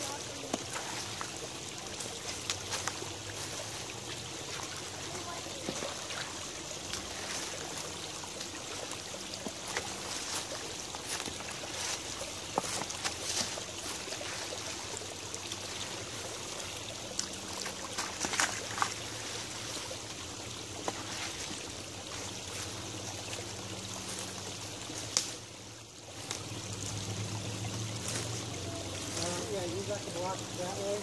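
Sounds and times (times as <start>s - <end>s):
creek water trickling: 0.0s - 31.0s.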